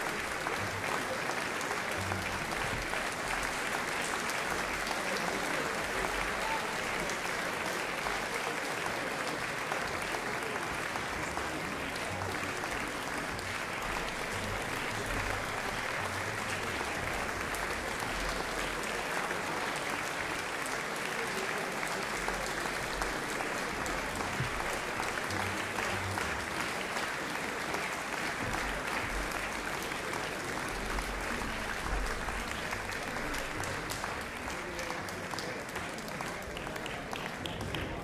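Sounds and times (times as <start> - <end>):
audience applauding: 0.0 - 38.0.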